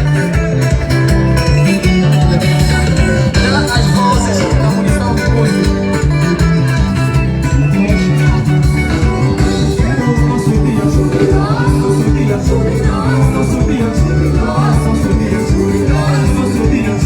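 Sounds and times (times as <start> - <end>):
electric guitar: 0.0 - 17.0
live band music: 0.0 - 17.0.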